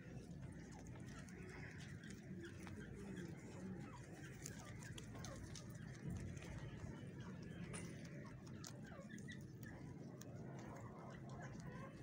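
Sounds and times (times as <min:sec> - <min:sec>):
birds chirping faintly: 0:00.0 - 0:12.0
low background hum: 0:00.0 - 0:12.0.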